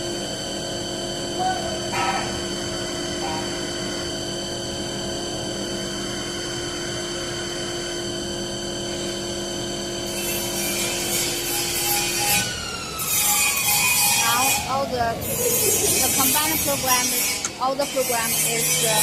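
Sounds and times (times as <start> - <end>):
lathe machine hum: 0.0 - 19.0.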